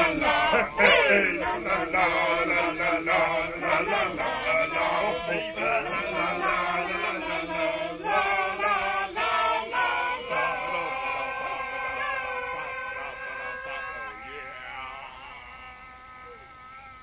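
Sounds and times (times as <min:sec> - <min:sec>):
choir singing chant-like song: 0:00.0 - 0:15.3.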